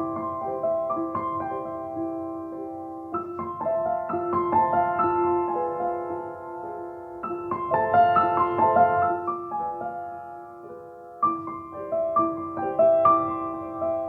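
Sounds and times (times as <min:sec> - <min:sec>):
gentle solo piano melody: 0:00.0 - 0:14.0.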